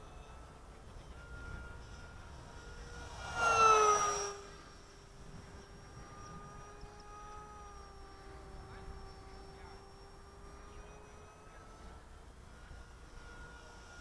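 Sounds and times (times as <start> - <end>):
model plane propeller whine: 0.0 - 14.0.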